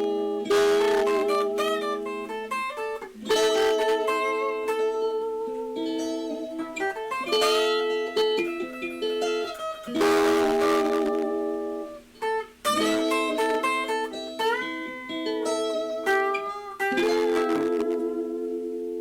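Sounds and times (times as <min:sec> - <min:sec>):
guitar playing blues: 0:00.0 - 0:19.0.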